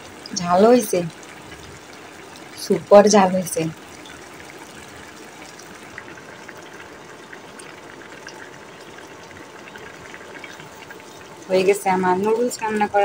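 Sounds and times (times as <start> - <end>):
noodles simmering in broth: 0.0 - 13.0.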